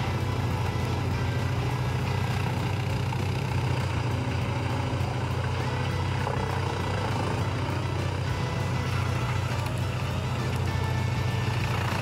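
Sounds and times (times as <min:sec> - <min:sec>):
wood chipper engine drone: 0:00.0 - 0:12.0.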